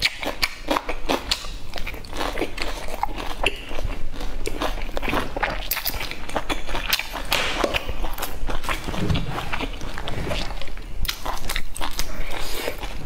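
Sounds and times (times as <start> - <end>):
crunchy chewing of onion: 0.0 - 13.0.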